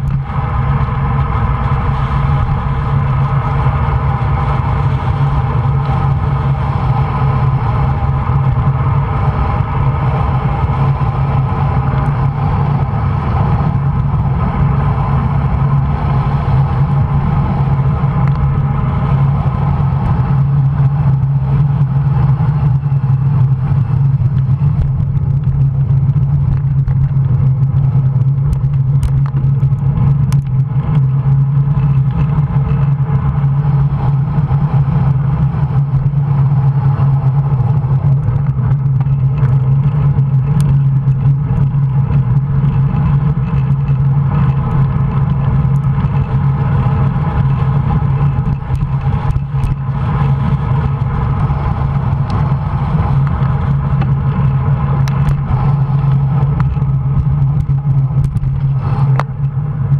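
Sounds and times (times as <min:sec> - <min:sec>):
bike tyre rumble: 0:00.0 - 0:59.9
wind rush: 0:00.0 - 0:59.9.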